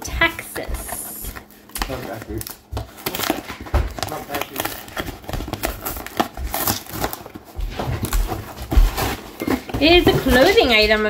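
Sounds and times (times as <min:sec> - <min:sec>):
packaging crinkling: 0:00.5 - 0:10.8.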